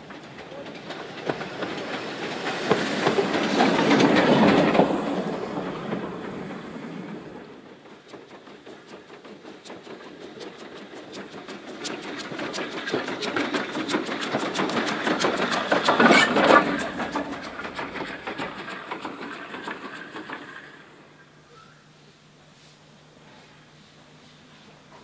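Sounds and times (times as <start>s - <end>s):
wheels clattering over rail joints: 0.0s - 21.2s
steam train passing: 0.0s - 25.0s.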